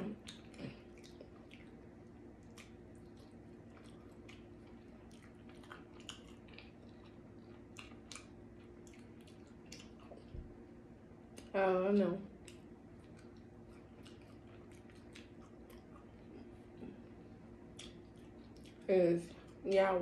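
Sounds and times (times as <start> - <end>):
wet chewing and lip smacks: 0.0 - 10.6, 11.3 - 11.5, 12.3 - 19.9
steady low hum: 0.0 - 20.0.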